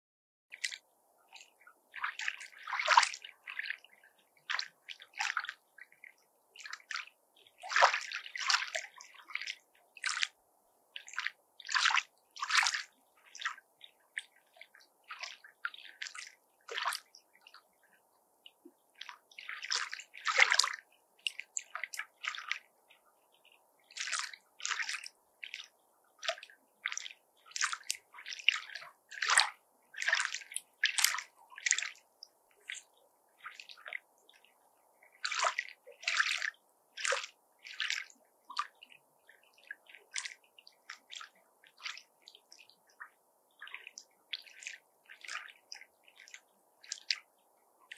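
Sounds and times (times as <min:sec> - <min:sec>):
waves lapping at the shore: 0:00.5 - 0:47.9.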